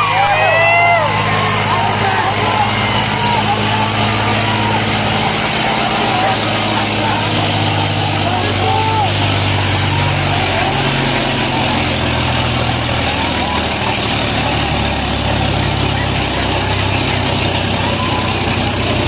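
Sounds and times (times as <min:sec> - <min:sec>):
diesel tractor engines running: 0:00.0 - 0:19.0
onlookers calling out: 0:00.0 - 0:19.0.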